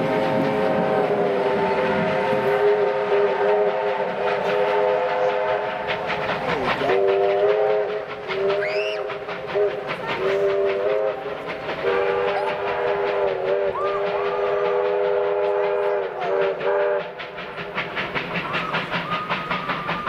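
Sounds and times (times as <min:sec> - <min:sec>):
steam locomotive whistle blasts: 0:00.0 - 0:06.1, 0:06.9 - 0:17.4
steam locomotive exhaust beats: 0:00.0 - 0:20.0.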